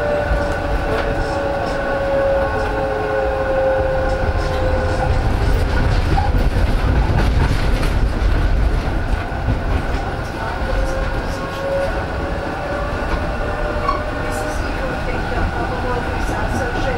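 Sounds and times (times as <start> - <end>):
tram wheels rumbling on rails: 0.0 - 16.9.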